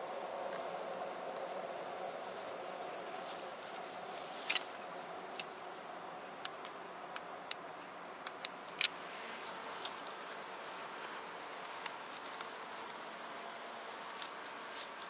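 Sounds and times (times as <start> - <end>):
electric fan hissing: 0.0 - 15.0.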